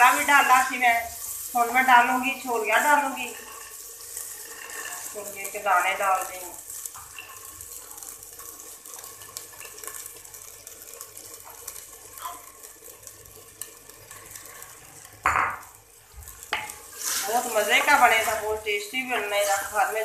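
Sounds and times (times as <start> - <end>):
food sizzling and crackling: 0.0 - 20.0.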